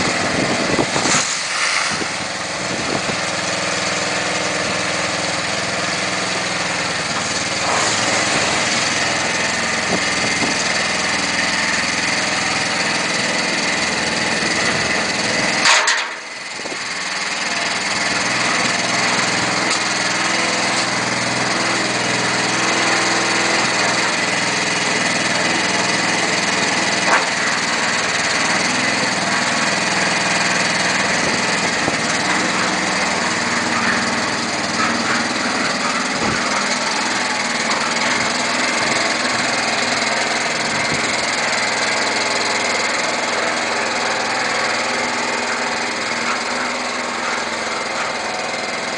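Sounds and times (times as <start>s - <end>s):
small petrol engine running: 0.0s - 48.9s.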